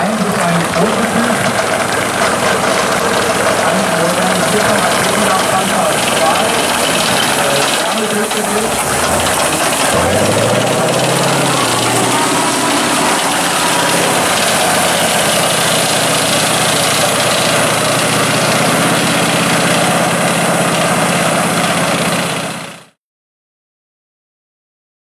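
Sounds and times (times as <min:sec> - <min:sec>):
tracked vehicle diesel engine: 0:00.0 - 0:23.0.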